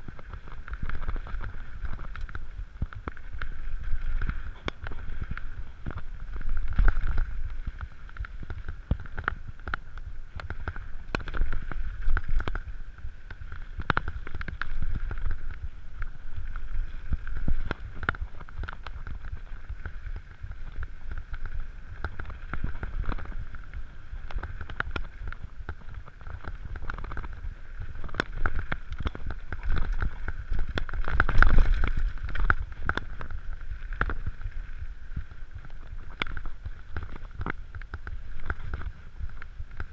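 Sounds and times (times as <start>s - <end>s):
bike rattling and knocking: 0.0s - 39.9s
bike tyres rumbling on dirt: 0.0s - 39.9s
wind buffeting microphone: 0.0s - 39.9s.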